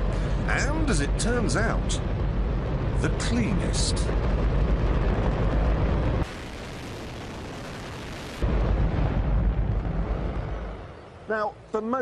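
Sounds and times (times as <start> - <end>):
rocket engine roaring: 0.0 - 11.3.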